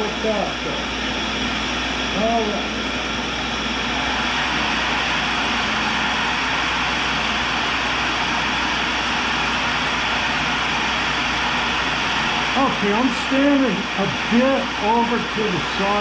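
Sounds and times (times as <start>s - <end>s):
grinding wheel whirring hiss: 0.0s - 16.0s.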